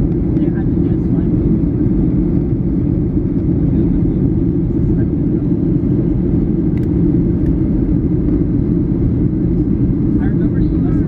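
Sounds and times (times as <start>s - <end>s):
airplane cabin roar: 0.0s - 11.0s.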